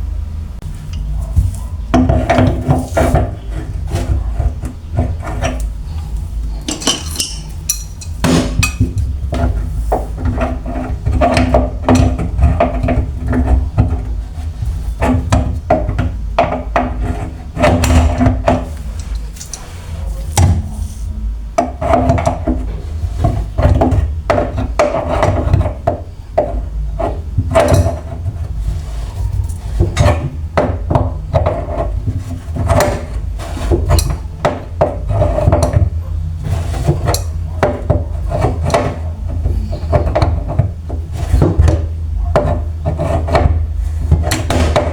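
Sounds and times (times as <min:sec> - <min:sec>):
steady low hum: 0:00.0 - 0:44.9
hand tools scraping and knocking: 0:00.6 - 0:44.9.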